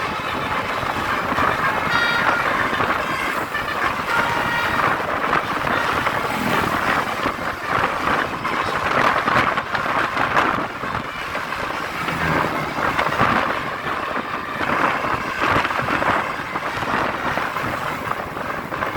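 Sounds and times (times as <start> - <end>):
passing road traffic: 0.0 - 18.9
wind buffeting microphone: 0.0 - 18.9.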